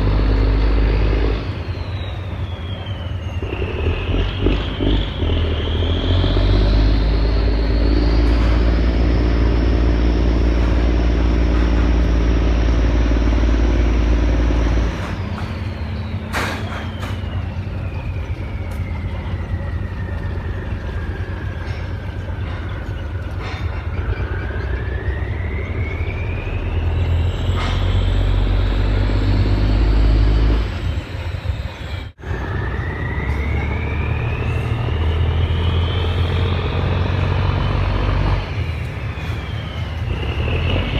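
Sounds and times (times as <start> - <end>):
boat diesel engine rumbling: 0.0 - 40.9.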